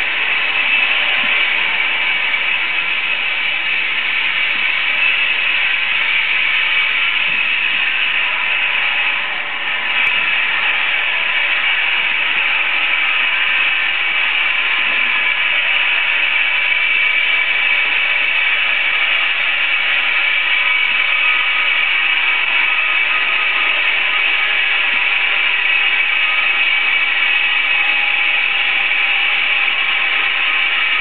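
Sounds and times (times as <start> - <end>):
film projector whirring: 0.0 - 31.0.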